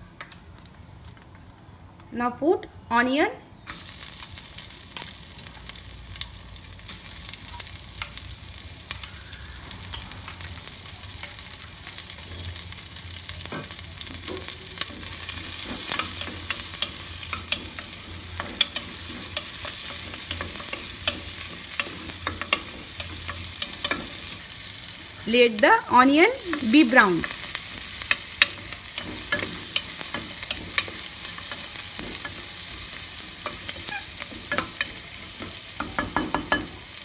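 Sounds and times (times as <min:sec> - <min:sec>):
onions sizzling in ghee: 0:03.6 - 0:37.0.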